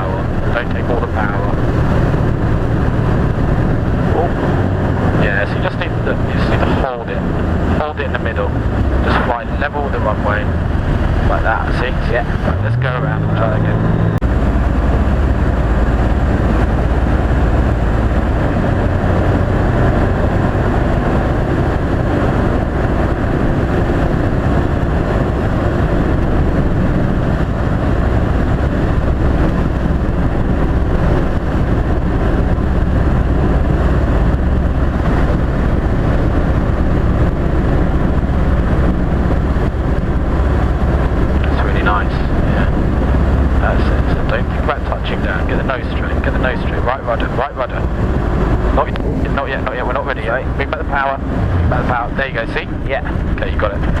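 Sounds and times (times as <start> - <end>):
light aircraft engine and propeller: 0.0 - 54.0
wind noise: 0.0 - 54.0.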